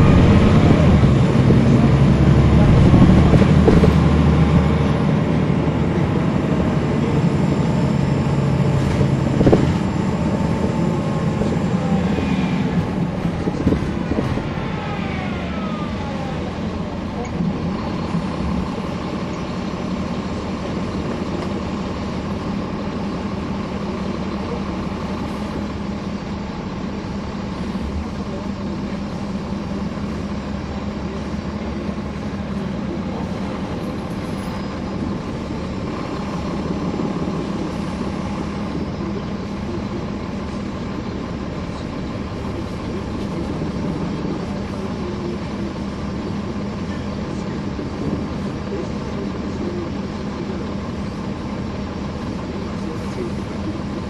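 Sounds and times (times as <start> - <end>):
bus diesel engine: 0.0 - 54.0.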